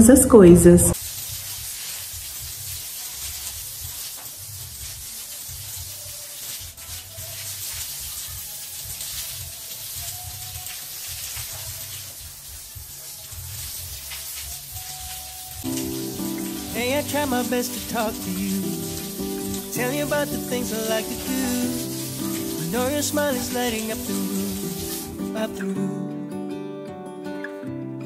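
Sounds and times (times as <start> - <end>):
hose water spraying on floor: 0.9 - 25.8.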